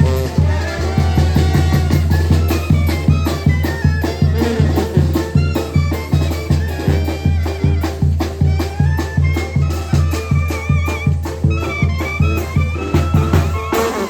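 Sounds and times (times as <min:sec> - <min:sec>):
brass band playing: 0:00.0 - 0:14.0
reed and brass melody: 0:00.0 - 0:14.0.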